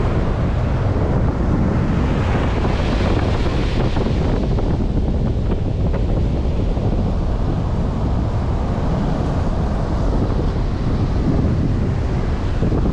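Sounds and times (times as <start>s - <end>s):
surf washing: 0.0s - 12.9s
wind buffeting microphone: 0.0s - 12.9s.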